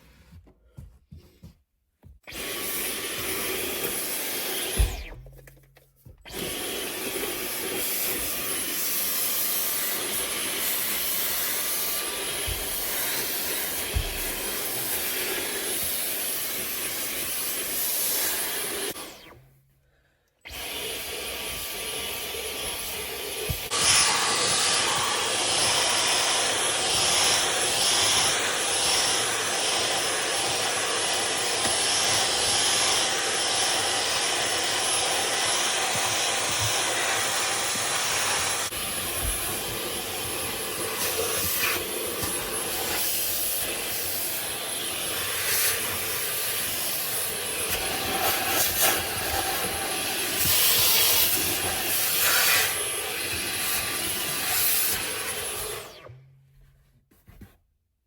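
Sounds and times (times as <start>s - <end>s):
vacuum nozzle knocking: 2.0s - 19.0s, 20.5s - 55.8s
vacuum cleaner running: 2.3s - 19.5s, 20.5s - 56.2s.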